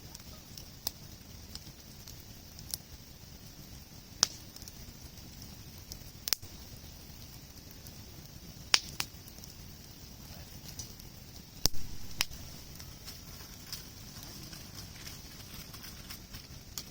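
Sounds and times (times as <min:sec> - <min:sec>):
burning wood popping and cracking: 0:00.0 - 0:16.9
campfire burning: 0:00.0 - 0:16.9.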